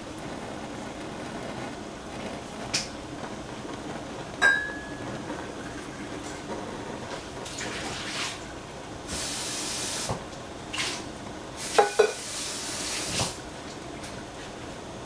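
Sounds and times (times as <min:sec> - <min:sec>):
steam hissing from saucepan: 0:00.0 - 0:13.6.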